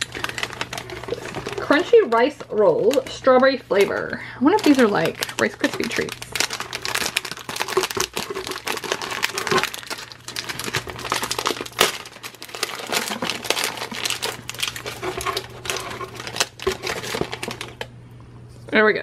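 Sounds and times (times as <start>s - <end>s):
plastic snack bag crinkling: 0.0s - 17.9s.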